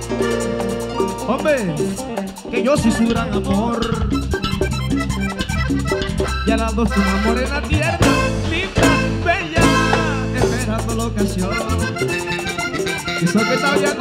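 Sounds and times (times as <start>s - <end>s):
live latin band music: 0.0s - 14.0s
steady bass line: 0.0s - 14.0s.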